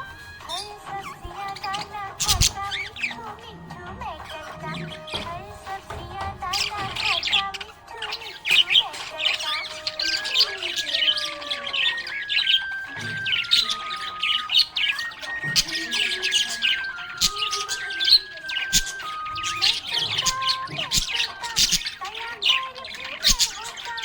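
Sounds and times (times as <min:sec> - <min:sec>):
background melody of held notes: 0:00.0 - 0:24.0
budgerigars chirping and squawking: 0:00.0 - 0:24.0.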